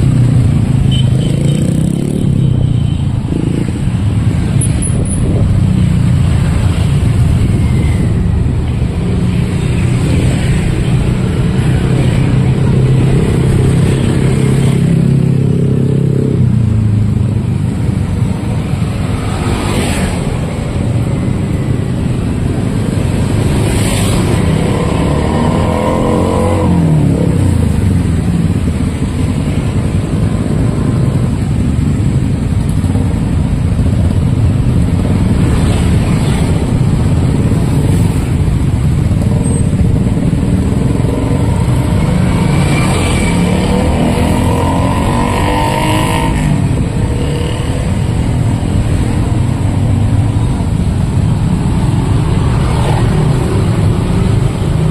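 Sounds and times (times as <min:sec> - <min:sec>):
cars and motorcycles passing: 0:00.0 - 0:54.9.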